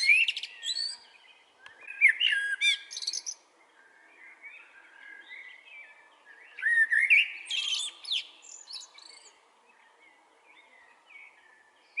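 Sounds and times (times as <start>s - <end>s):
blackbird singing: 0.0s - 12.0s.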